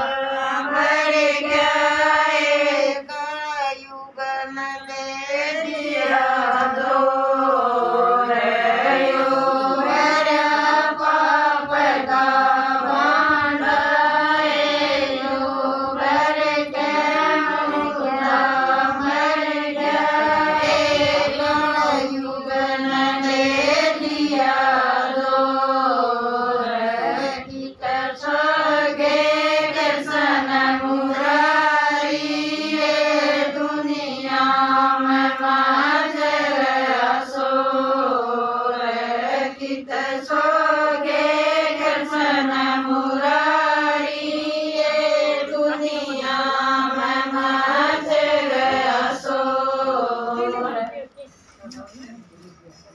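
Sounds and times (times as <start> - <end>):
women singing devotional song: 0.0 - 52.3.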